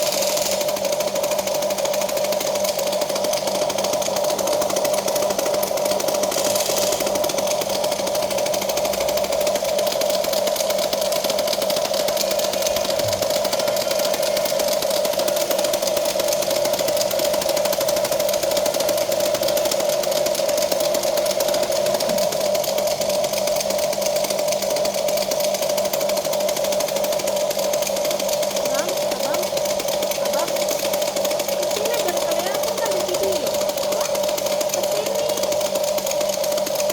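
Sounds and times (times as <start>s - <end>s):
toy excavator motors whirring: 0.0s - 36.9s.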